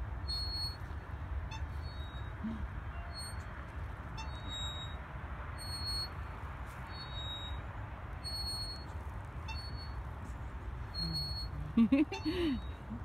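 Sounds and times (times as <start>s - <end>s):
swing chain squeaking: 0.2s - 12.9s.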